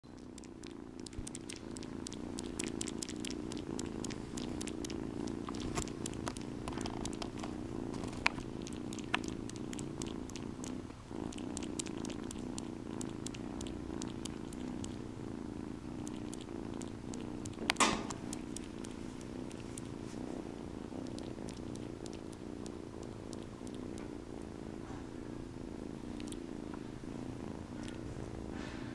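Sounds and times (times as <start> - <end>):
kitten purring: 0.0 - 28.9.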